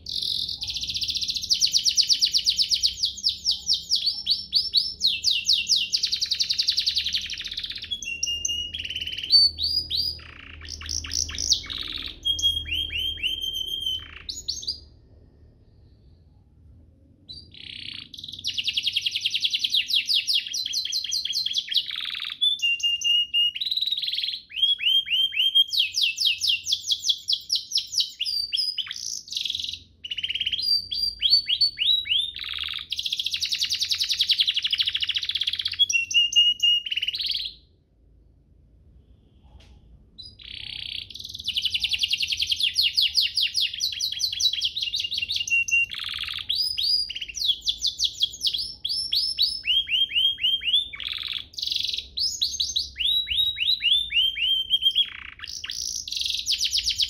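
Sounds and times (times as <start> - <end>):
canary singing trills: 0.0 - 15.2, 17.3 - 37.8, 40.1 - 57.0.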